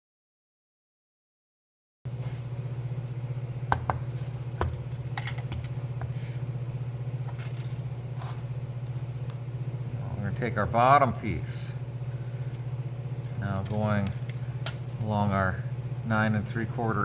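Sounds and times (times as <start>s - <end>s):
steady low hum: 2.1s - 17.0s.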